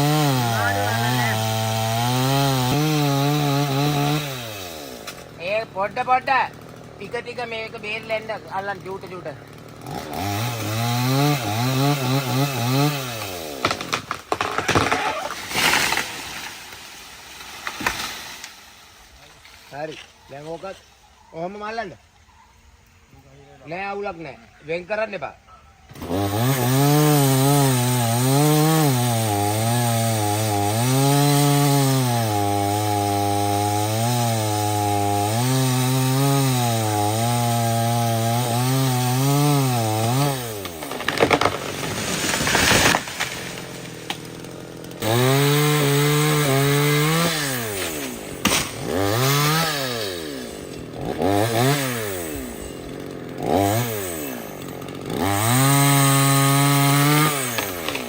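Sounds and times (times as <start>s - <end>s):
chainsaw cutting wood: 0.0s - 20.1s, 25.9s - 58.0s.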